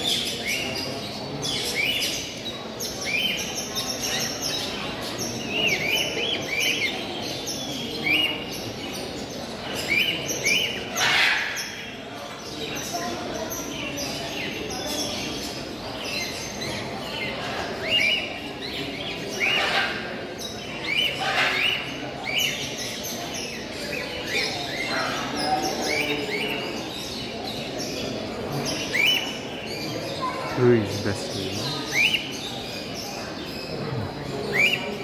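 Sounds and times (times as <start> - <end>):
caged birds chirping and whistling: 0.0 - 35.0.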